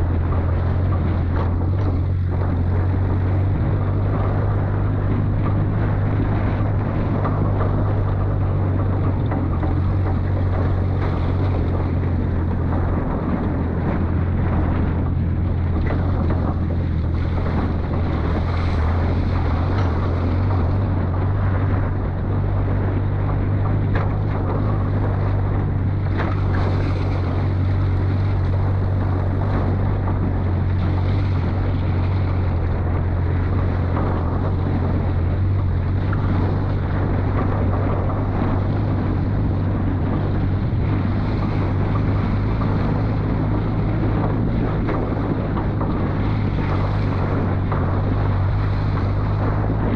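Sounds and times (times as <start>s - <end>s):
vehicle engine droning: 0.0s - 49.9s.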